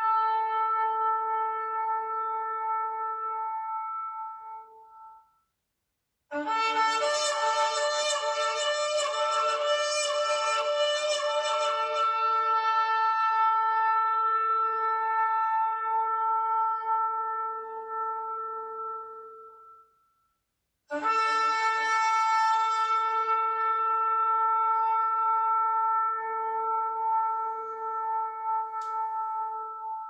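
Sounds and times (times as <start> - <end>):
shofar blasts: 0.0 - 5.1, 6.3 - 19.8, 20.9 - 30.0.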